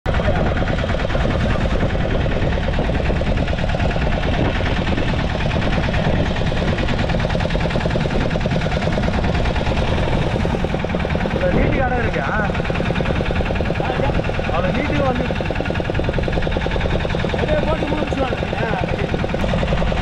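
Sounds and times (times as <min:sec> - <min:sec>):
boat engine pulsing: 0:00.1 - 0:20.0.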